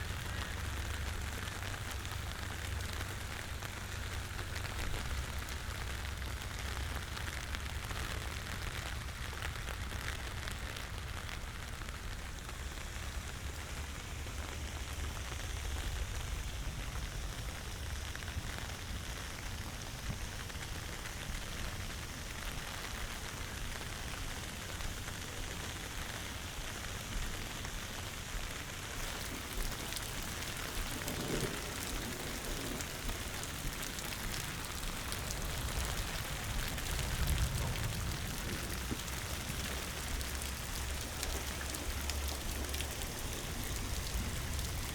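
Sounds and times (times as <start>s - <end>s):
low steady rumble: 0.0s - 44.9s
rain pattering on surfaces: 0.0s - 44.9s.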